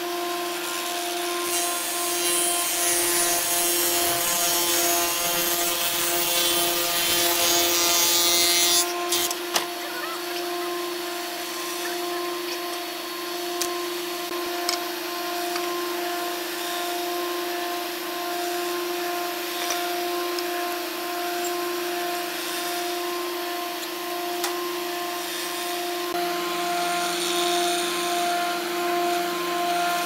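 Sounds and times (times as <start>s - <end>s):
rushing noise of wood cutting: 0.0s - 30.0s
woodworking machine whining: 0.0s - 30.0s.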